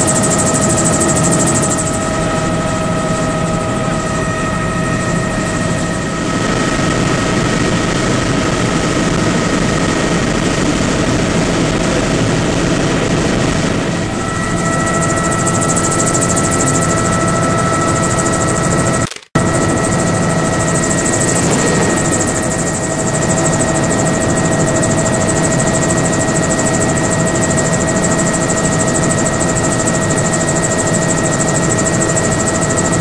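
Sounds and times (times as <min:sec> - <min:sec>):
high-pitched whine: 0:00.0 - 0:08.4, 0:13.0 - 0:33.0
helicopter engine and rotor rush: 0:00.0 - 0:33.0.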